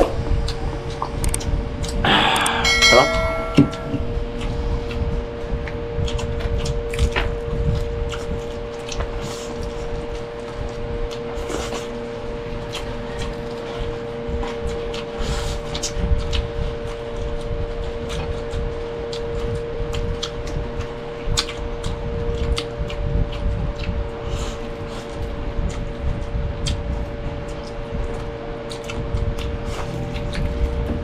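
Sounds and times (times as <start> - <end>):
steady hum: 0.0 - 31.0
wet chewing and lip smacks: 0.4 - 2.6, 4.4 - 31.0.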